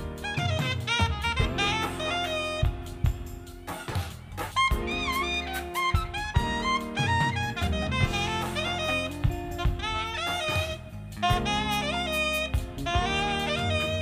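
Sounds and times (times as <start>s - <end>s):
funk band playing: 0.0s - 14.0s
saxophone solo: 0.0s - 14.0s.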